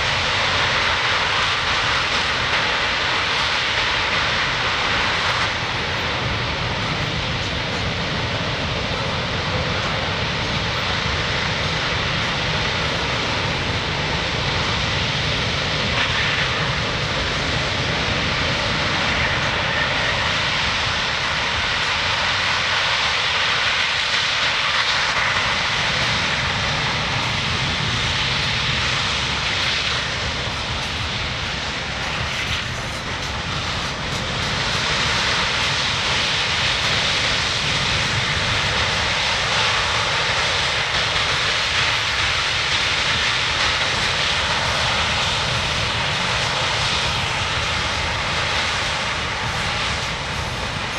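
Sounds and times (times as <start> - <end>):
jet engines running loud: 0.0 - 50.9.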